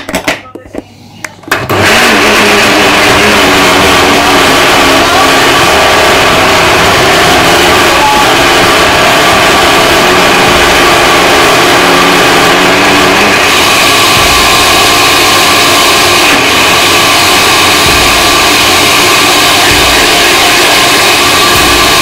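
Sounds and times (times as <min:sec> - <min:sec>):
blender motor running: 0:01.5 - 0:22.0.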